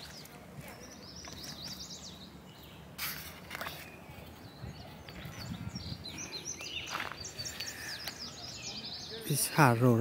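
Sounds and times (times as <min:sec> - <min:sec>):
open-air ambience: 0:00.0 - 0:10.0
songbird chirping: 0:00.0 - 0:10.0.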